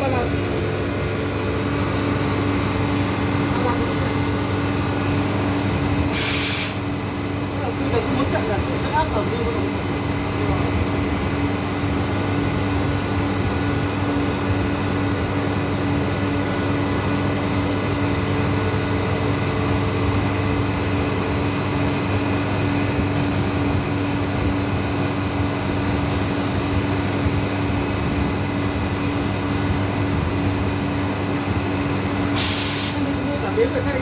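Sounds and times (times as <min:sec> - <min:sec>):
refrigeration machinery humming: 0:00.0 - 0:34.0.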